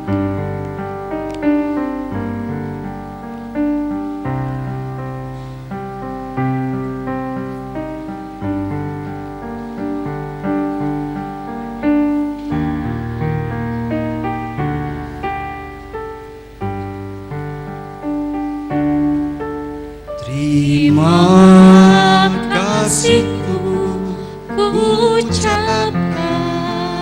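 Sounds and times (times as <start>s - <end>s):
piano playing slow chords: 0.0s - 27.0s.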